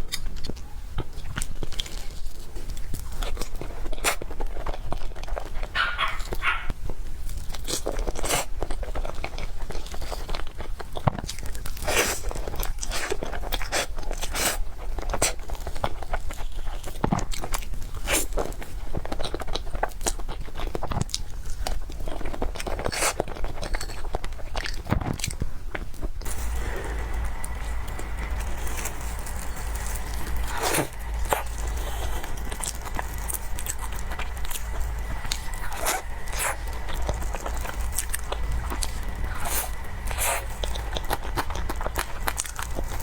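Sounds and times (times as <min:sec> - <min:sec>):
chewing and biting: 0:00.0 - 0:06.7, 0:07.3 - 0:43.0.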